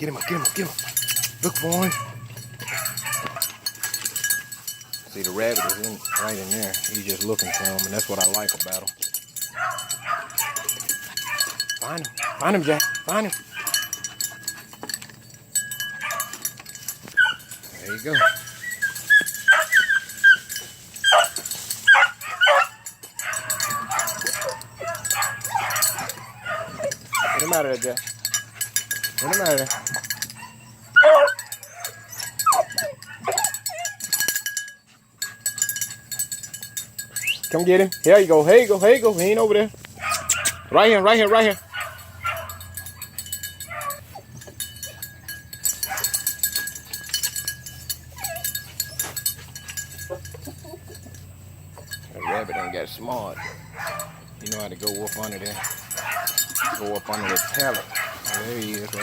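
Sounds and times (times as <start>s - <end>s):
puppy barking and yipping: 0.0s - 8.0s, 9.4s - 14.6s, 15.6s - 34.7s, 39.9s - 51.2s, 51.8s - 59.0s
brush crackling and rustling: 0.0s - 34.3s, 36.2s - 50.1s, 51.2s - 59.0s.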